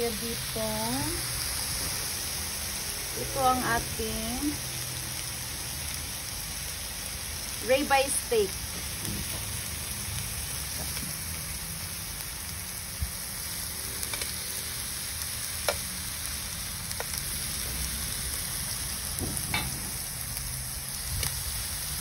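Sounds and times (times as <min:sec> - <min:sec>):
meat sizzling on a grill pan: 0:00.0 - 0:22.0.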